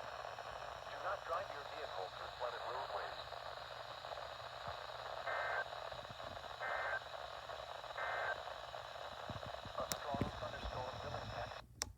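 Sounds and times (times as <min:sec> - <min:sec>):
radio hiss: 0:00.0 - 0:11.6.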